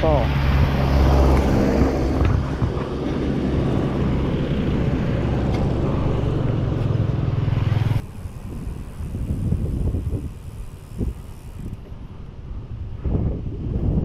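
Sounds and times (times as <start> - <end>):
wind rumble on microphone: 0.0 - 7.4, 8.0 - 14.0
traffic passing close by: 0.0 - 13.2.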